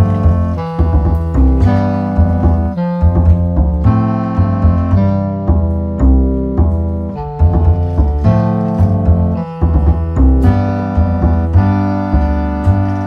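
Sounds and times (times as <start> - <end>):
piano over bass line: 0.0 - 13.0.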